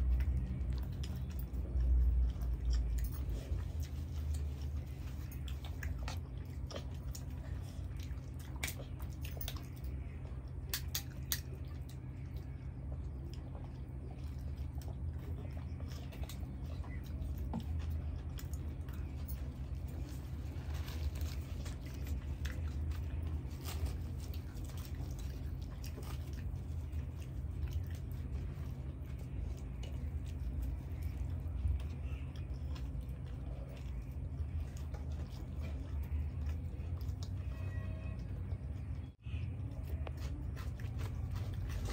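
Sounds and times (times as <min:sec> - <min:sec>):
people chewing and biting bread: 0:00.0 - 0:41.9
steady low hum: 0:00.0 - 0:41.9.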